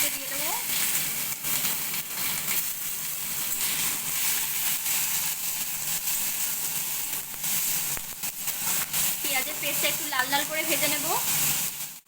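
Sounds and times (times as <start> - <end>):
oil crackling and popping: 0.0 - 12.0
paste sizzling in hot oil: 0.0 - 12.0.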